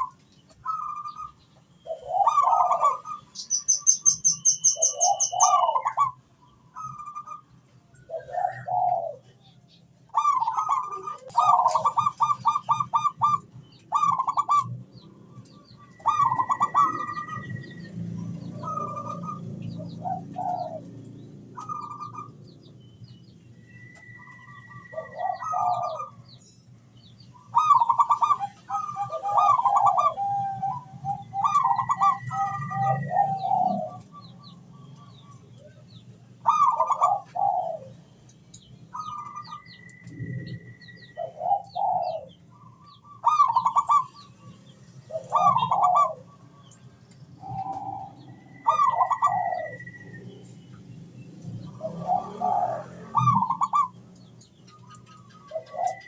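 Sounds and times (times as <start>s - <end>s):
doves cooing: 0.0s - 22.5s, 23.6s - 26.3s, 27.4s - 38.2s, 38.9s - 50.7s, 51.4s - 56.0s
small birds chirping: 0.0s - 56.0s.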